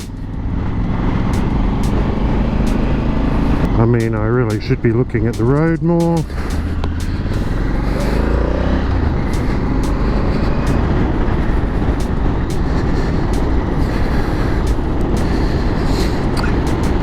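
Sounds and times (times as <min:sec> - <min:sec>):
motorcycle engine cruising: 0:00.0 - 0:17.0
wind noise on microphone: 0:00.0 - 0:17.0.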